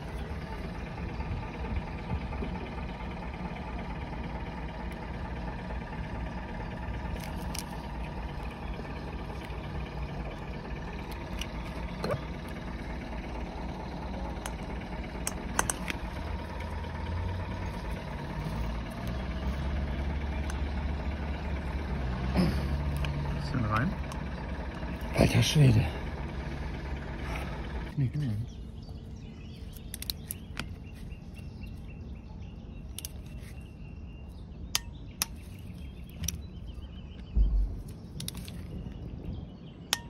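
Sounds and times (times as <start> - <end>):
steady low drone: 0.0 - 40.0.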